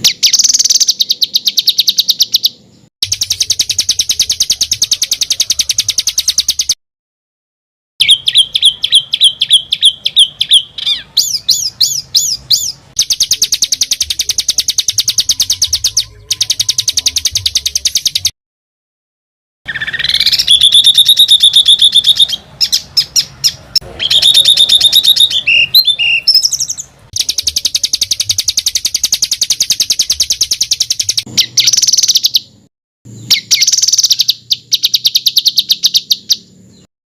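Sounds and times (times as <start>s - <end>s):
songbird trilling: 0.0s - 6.8s, 8.0s - 18.3s, 19.7s - 36.9s.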